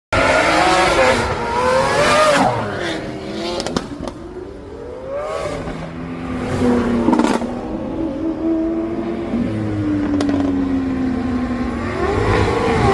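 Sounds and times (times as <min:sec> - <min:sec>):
car engines revving: 0:00.1 - 0:12.9.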